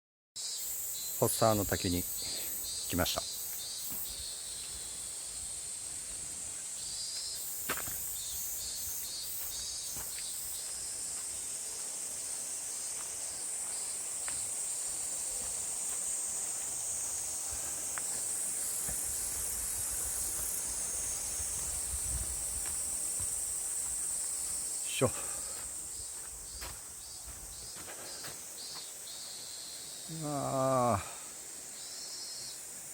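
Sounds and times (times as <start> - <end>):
insects buzzing: 0.4 - 32.9
pulsing high insect call: 0.4 - 32.9.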